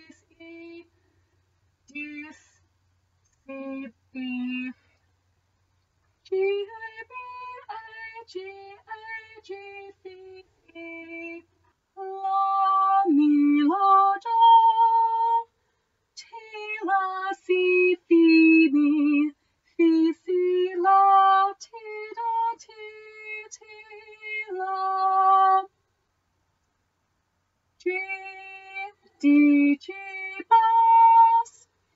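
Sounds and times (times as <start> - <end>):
woman singing unaccompanied: 0.0 - 1.0, 1.8 - 2.6, 3.4 - 4.8, 6.2 - 15.5, 16.2 - 25.7, 27.8 - 31.8.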